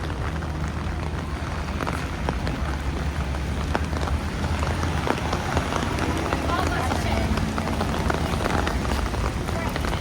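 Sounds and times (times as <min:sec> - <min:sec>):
rain falling on a street: 0:00.0 - 0:10.0.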